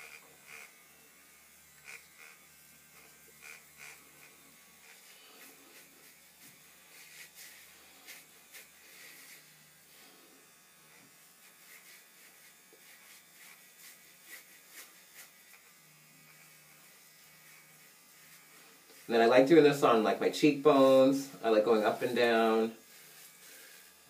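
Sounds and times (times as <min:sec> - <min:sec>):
facial exfoliator buzzing faintly: 0:00.0 - 0:24.0
soft rubbing strokes on skin: 0:00.5 - 0:24.0.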